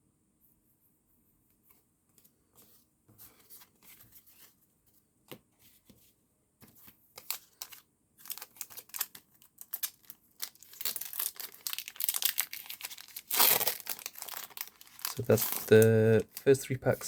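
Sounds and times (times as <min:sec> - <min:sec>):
rustling of cards and packaging: 0:02.2 - 0:17.0.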